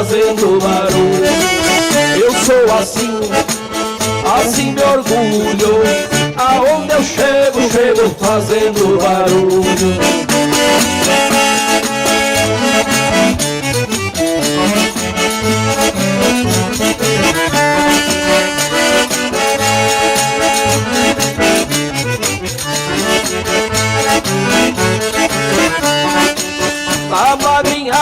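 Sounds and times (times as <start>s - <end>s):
accordion melody: 0.0s - 28.0s
bass beat: 0.0s - 28.0s
guitar: 0.0s - 28.0s.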